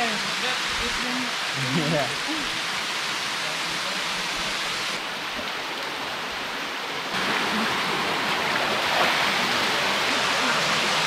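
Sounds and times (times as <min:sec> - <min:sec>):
waterfall rushing and splashing: 0:00.0 - 0:11.0.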